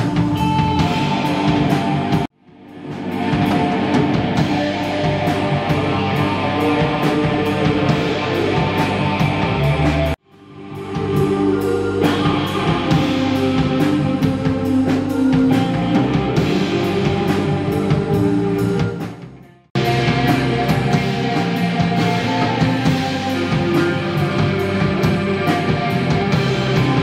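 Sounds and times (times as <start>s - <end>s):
drum kit with cymbal beat: 0.0s - 27.0s
electric guitar: 0.0s - 27.0s.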